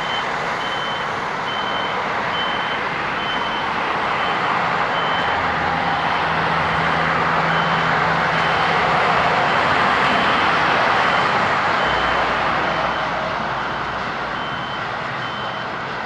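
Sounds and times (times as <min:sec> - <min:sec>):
reversing alarm beeping: 0:00.0 - 0:08.8, 0:09.4 - 0:15.8
engine hum: 0:00.0 - 0:16.0
road-paving machinery running: 0:00.0 - 0:16.0.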